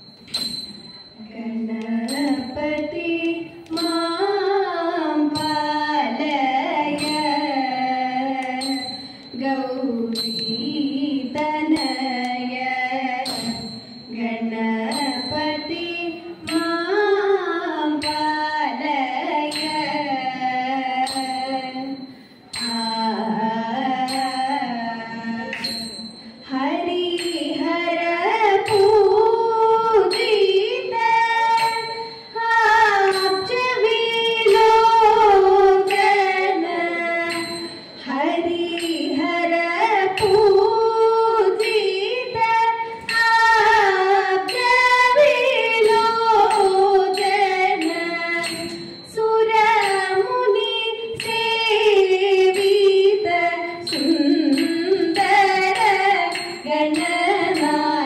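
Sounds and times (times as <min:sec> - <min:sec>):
woman singing ornamented melody: 0:01.2 - 0:58.0.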